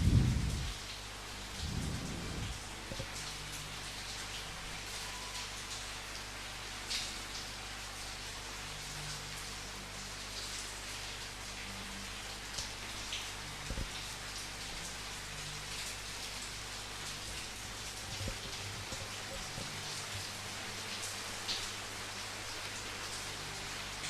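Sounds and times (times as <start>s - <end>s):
raindrops hitting a surface: 0.0s - 24.0s
steady rain falling: 0.0s - 24.0s.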